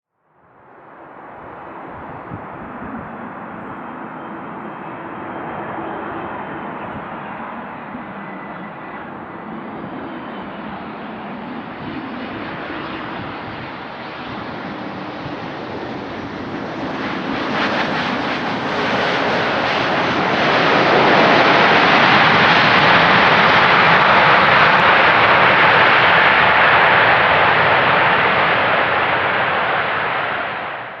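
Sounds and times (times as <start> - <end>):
jet engines roaring: 0.7 - 31.0.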